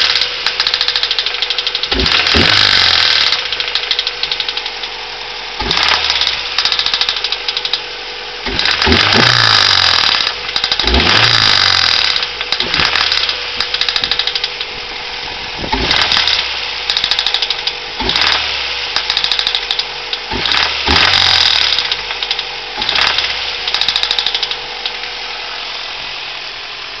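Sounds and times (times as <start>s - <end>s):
rapid engine knocking: 0.0s - 4.9s, 5.6s - 14.7s, 15.7s - 24.9s
car engine revving: 0.0s - 24.1s.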